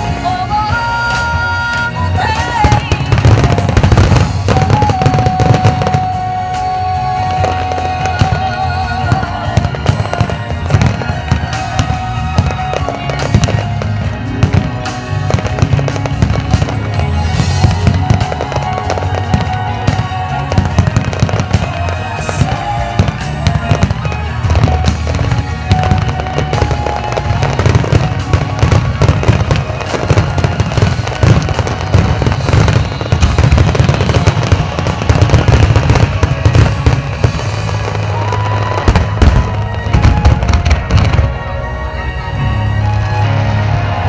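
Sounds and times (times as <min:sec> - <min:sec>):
fireworks booming and crackling: 0:00.0 - 0:44.0
music playing: 0:00.0 - 0:44.0.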